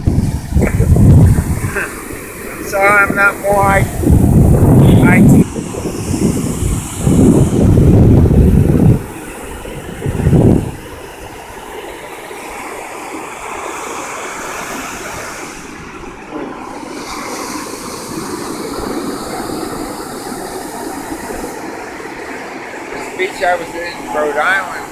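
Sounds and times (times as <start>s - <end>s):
ocean waves washing onto beach: 0.0s - 24.9s
wind buffeting microphone: 0.0s - 24.9s.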